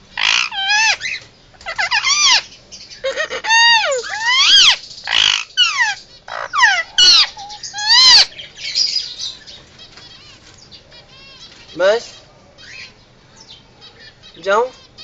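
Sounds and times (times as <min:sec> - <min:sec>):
parakeet chattering: 0:00.1 - 0:13.0, 0:13.8 - 0:15.0
parakeet screeching calls: 0:00.1 - 0:13.0, 0:13.8 - 0:15.0.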